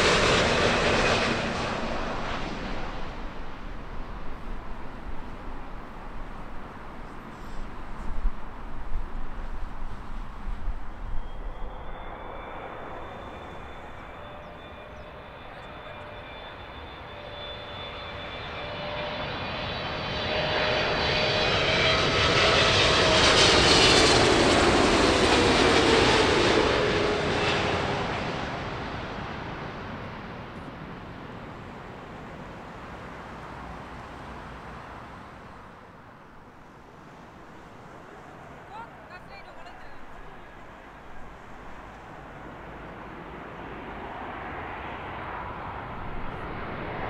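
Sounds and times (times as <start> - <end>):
jet airliner passing overhead: 0.0 - 47.0.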